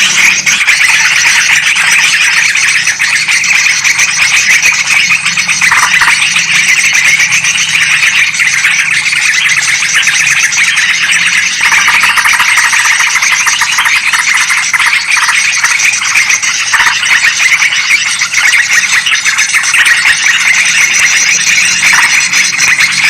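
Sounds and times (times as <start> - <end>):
bulbuls chattering: 0.0 - 23.0.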